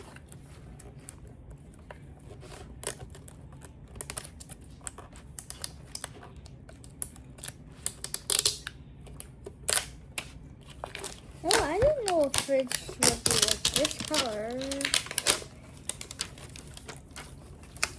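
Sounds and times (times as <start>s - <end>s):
toy packaging clicks and crinkles: 1.9s - 17.9s.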